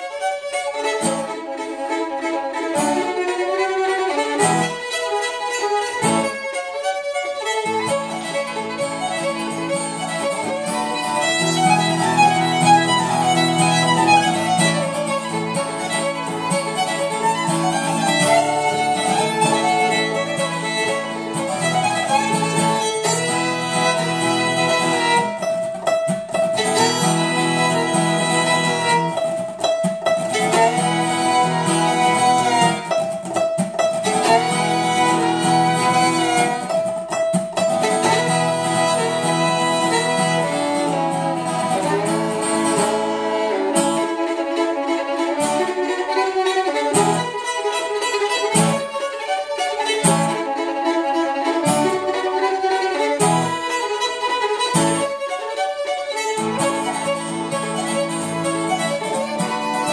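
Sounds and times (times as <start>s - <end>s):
acoustic guitar accompaniment: 0.0s - 59.9s
violin melody: 0.0s - 59.9s.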